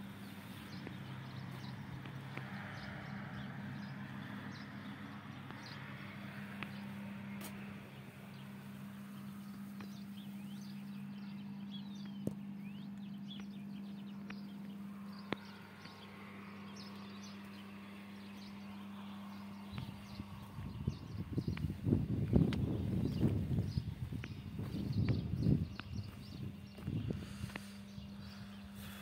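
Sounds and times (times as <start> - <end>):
birds chirping: 0.0 - 29.0
diesel engine idling: 0.0 - 29.0.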